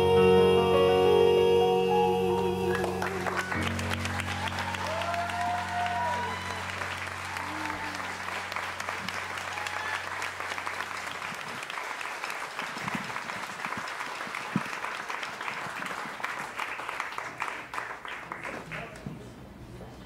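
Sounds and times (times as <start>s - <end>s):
audience applauding: 2.7s - 19.1s.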